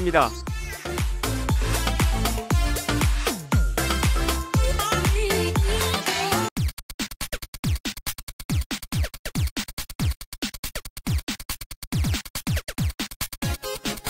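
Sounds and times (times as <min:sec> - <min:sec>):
electronic music with drum machine: 0:00.0 - 0:14.0.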